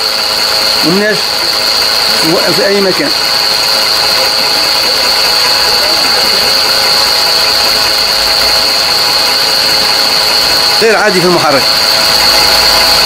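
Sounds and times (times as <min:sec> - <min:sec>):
car engine running: 0:00.0 - 0:13.0
high-pitched whine: 0:00.0 - 0:13.0
mechanical clatter: 0:00.0 - 0:13.0.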